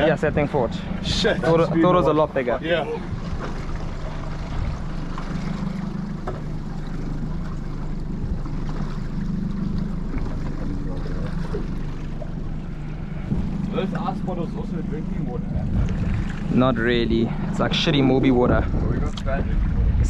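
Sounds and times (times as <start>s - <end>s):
outboard motors droning: 0.0s - 20.0s
water noise: 0.0s - 20.0s
wind: 0.0s - 20.0s.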